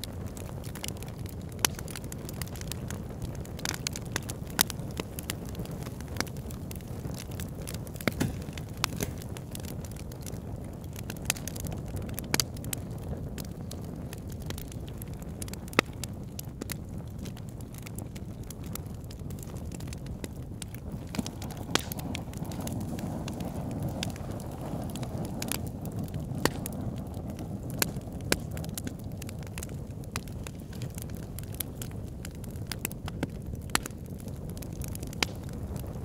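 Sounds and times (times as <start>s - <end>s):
campfire flames rustling: 0.0s - 36.0s
fire crackling and popping: 0.0s - 36.0s.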